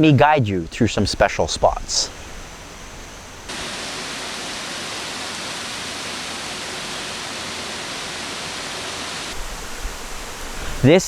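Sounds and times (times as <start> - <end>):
waterfall rushing water: 1.2 - 11.0.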